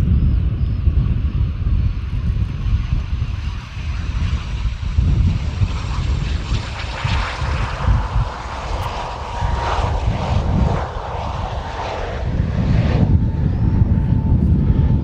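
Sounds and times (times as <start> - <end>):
jet engines roaring: 0.0 - 15.0
thin steady jet whine: 0.0 - 15.0.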